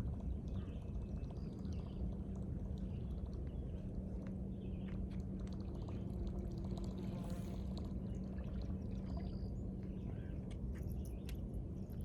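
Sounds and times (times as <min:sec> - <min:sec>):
steady low rushing water: 0:00.0 - 0:10.7
constant low hum: 0:00.0 - 0:12.0.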